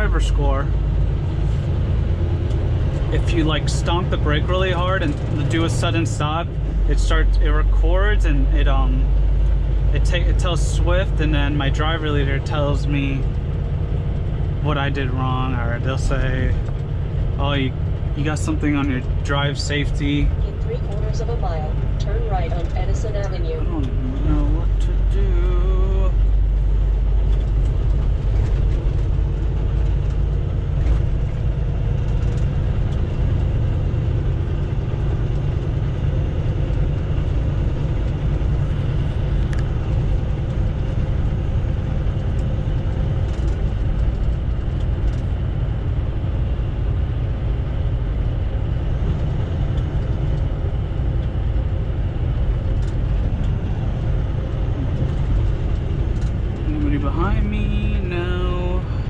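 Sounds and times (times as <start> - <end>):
diesel engine rumble: 0.0 - 59.0
road noise: 0.0 - 59.0.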